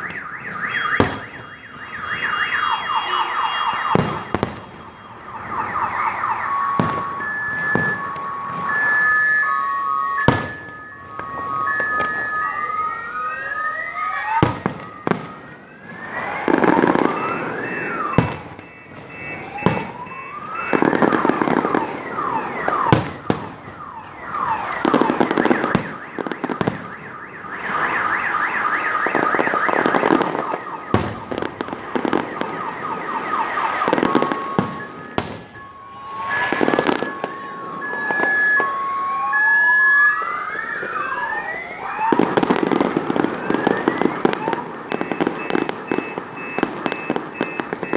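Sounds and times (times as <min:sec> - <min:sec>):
whistling firework shells: 0:00.0 - 0:12.6, 0:14.4 - 0:39.4, 0:40.8 - 0:47.9
fireworks crackling bursts: 0:00.0 - 0:13.4, 0:14.1 - 0:47.9
car alarm beeping: 0:00.0 - 0:47.9
fireworks bangs: 0:00.0 - 0:47.9.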